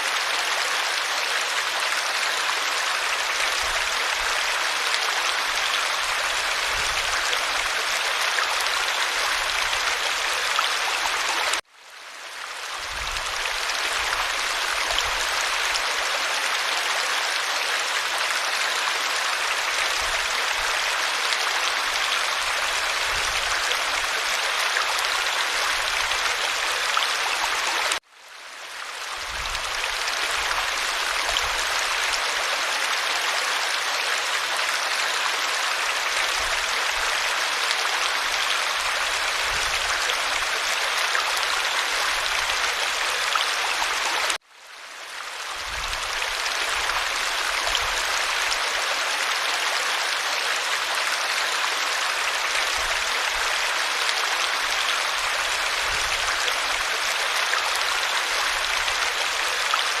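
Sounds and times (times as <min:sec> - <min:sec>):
creek water running: 0:00.0 - 1:00.0.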